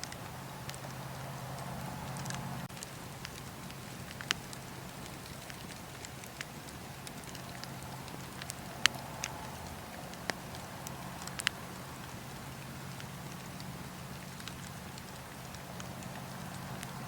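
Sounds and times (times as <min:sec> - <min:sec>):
fire crackling and popping: 0:00.0 - 0:17.0
fire flames rumbling and hissing: 0:00.0 - 0:17.0.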